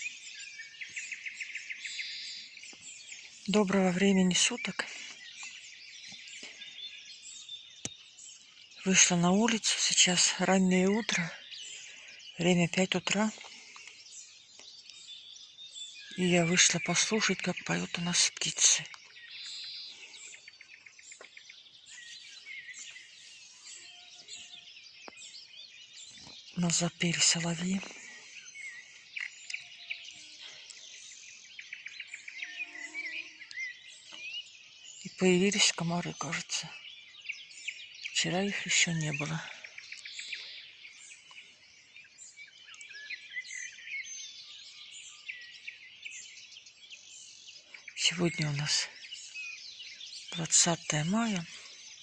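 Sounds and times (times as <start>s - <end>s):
nightingales singing: 0.0s - 52.0s
songbirds singing: 0.0s - 52.0s.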